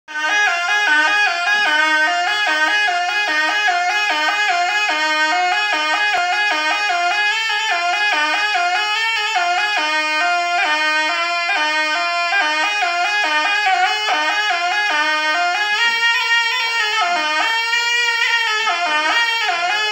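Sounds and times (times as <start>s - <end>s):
double-reed shawm melody: 0.1s - 19.9s.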